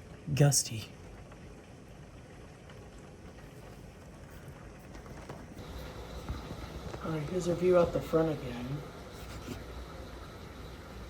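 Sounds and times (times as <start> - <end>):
rain: 0.0 - 11.0.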